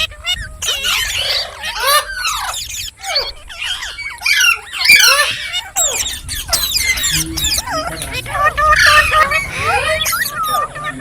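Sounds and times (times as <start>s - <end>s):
parakeet calling: 0.0s - 11.0s.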